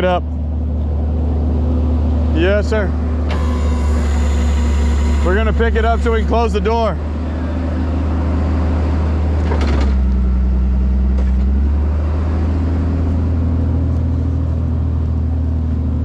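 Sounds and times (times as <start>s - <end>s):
truck engine running at low revs: 0.0s - 16.0s.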